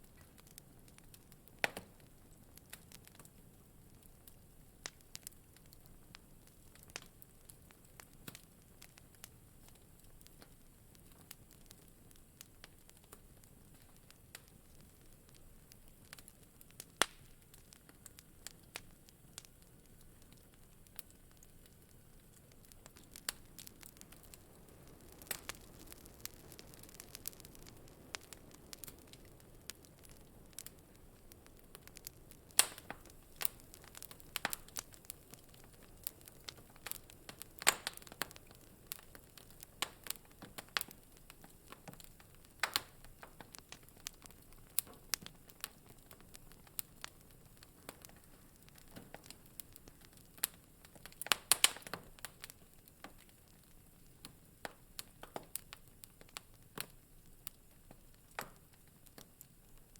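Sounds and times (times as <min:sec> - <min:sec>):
faint steady hiss: 0:00.0 - 0:59.9
wood fire crackling and popping: 0:00.0 - 0:59.9.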